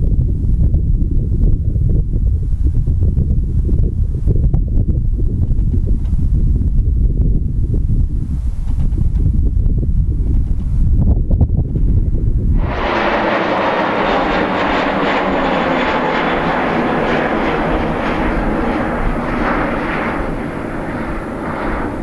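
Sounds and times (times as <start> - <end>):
jet engine noise: 0.0 - 22.0
wind on microphone: 0.0 - 22.0.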